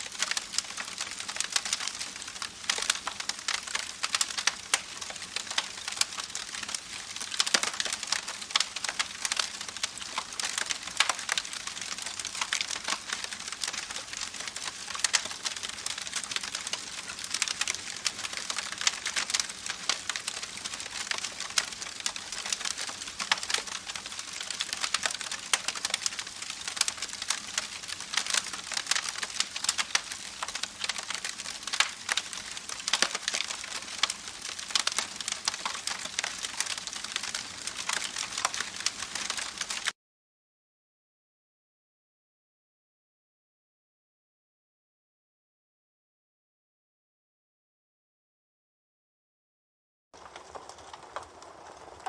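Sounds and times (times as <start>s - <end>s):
campfire crackling and popping: 0.0s - 40.0s, 50.2s - 52.0s.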